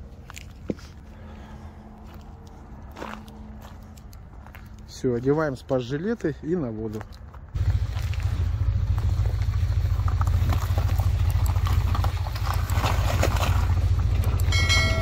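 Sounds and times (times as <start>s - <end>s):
gravel crunching under tyres: 0.0s - 15.0s
vehicle engine rumbling: 0.0s - 15.0s.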